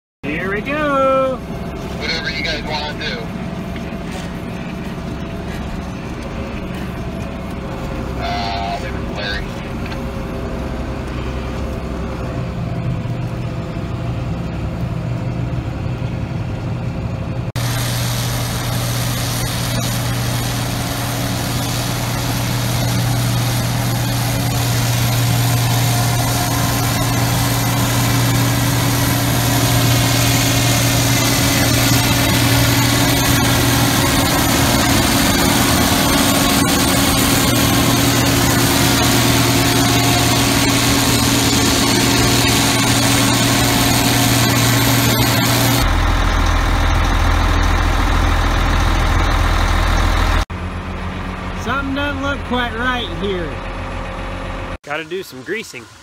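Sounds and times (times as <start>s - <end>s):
combine harvester running: 0.2s - 56.0s.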